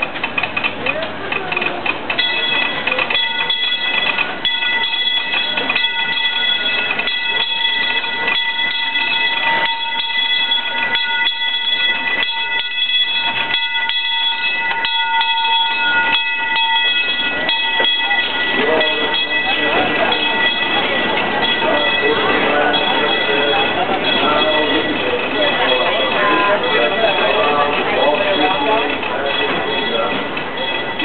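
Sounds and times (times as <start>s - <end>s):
train wheels clicking on rails: 0.0s - 31.0s
high-pitched ringing: 2.2s - 31.0s.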